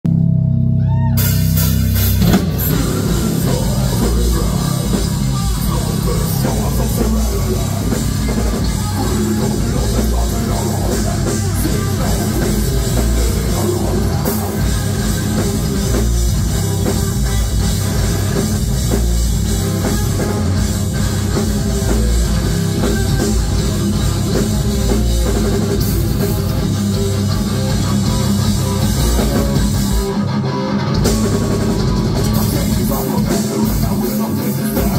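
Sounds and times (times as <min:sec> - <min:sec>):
bass guitar: 0:00.0 - 0:34.9
distorted electric guitars: 0:00.1 - 0:34.9
drum kit: 0:00.1 - 0:34.9.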